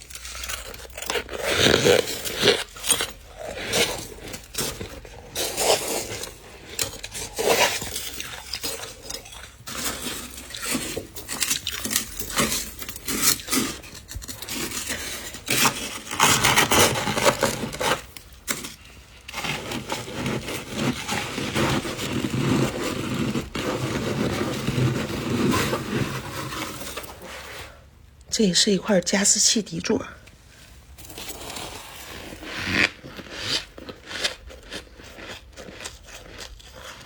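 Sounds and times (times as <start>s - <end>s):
scraper scraping ice: 0.0s - 27.8s, 31.0s - 37.0s.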